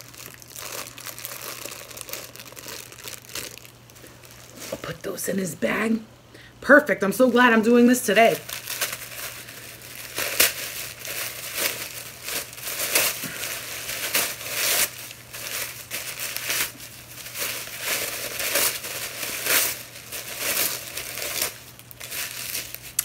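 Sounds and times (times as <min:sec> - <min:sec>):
tissue paper crinkling: 0:00.0 - 0:05.2, 0:08.2 - 0:23.0.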